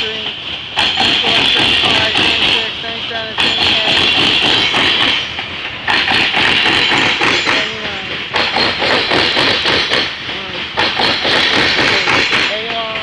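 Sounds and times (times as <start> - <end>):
freight train wheels clacking: 0.0 - 13.0
train rolling hiss: 0.0 - 13.0.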